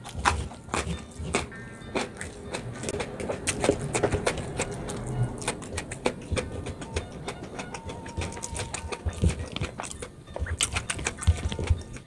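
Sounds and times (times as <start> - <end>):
crunchy wet chewing: 0.0 - 12.0.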